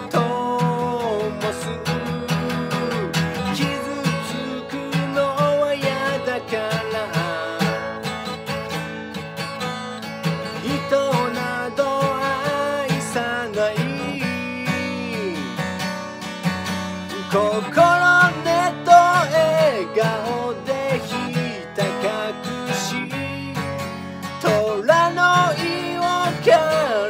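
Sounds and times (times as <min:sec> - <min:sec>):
man singing: 0:00.0 - 0:08.6, 0:10.2 - 0:16.0, 0:17.0 - 0:27.0
acoustic guitar strumming: 0:00.0 - 0:27.0.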